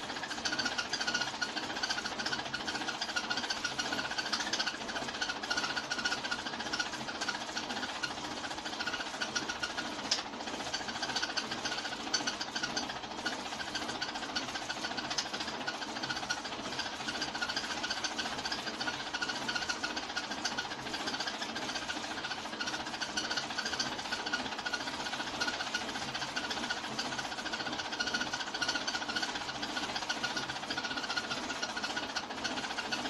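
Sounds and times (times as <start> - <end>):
film projector clattering: 0.0 - 33.0.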